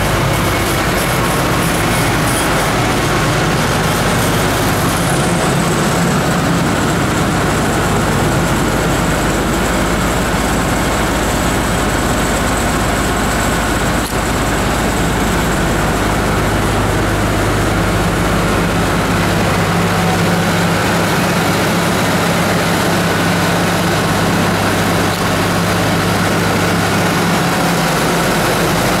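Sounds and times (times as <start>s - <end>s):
combine harvester engine idling: 0.0s - 29.0s.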